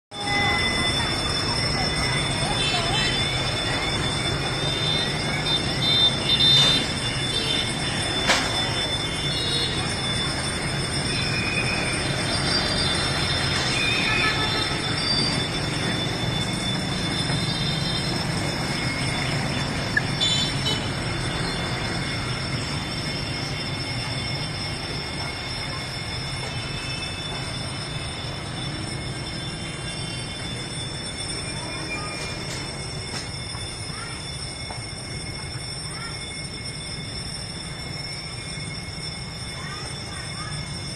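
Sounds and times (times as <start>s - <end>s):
high-pitched wheel squeal: 0.1s - 40.9s
train rumbling on rails: 0.1s - 40.9s.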